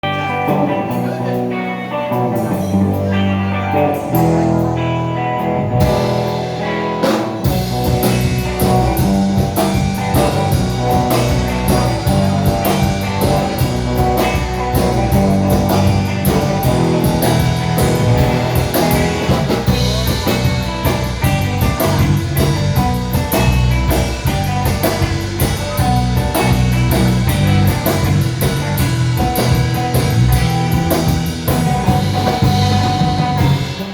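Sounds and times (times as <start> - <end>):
electric guitar: 0.0 - 33.9
live rock band playing: 0.0 - 33.9.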